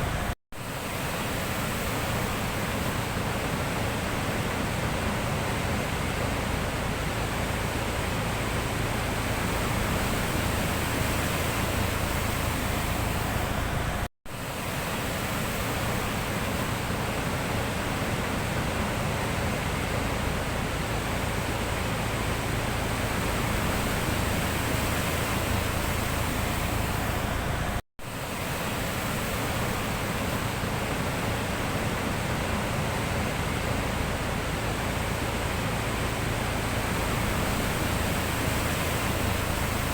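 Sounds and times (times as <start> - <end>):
sea surf washing: 0.0 - 39.9.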